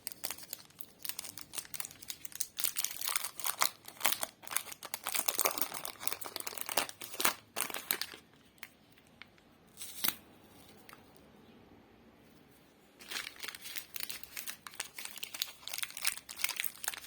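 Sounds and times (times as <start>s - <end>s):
plastic wrapper crinkling: 0.0s - 11.0s, 13.0s - 17.0s.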